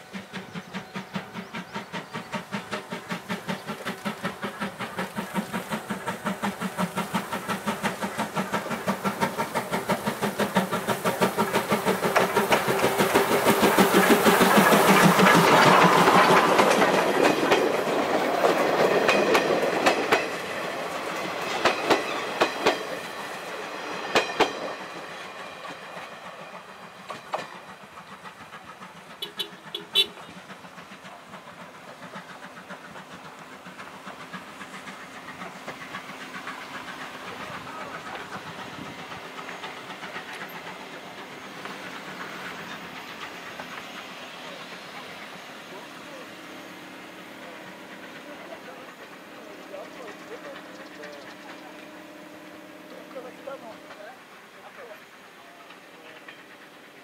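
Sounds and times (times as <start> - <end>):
steam locomotive chuffing: 0.0 - 57.0
train wheels clacking over rail joints: 0.0 - 57.0.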